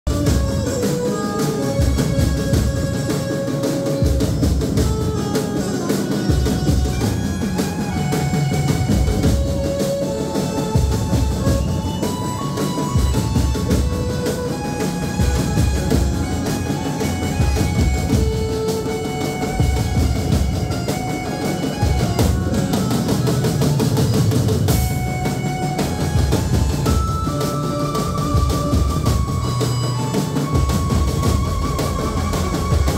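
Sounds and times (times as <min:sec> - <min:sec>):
loud music with drum beat: 0:00.1 - 0:32.9.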